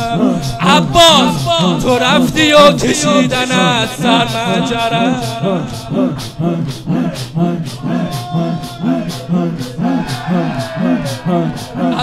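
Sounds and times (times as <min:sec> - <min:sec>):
people beating chests in unison: 0:00.0 - 0:12.0.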